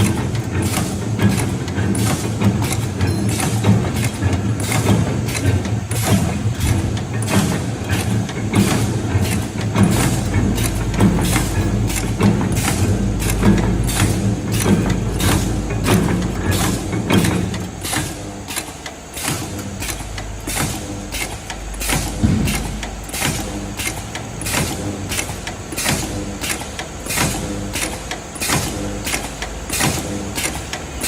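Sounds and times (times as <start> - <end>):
machine motor hum: 0.0 - 31.0
sharp machine clack: 0.0 - 31.0.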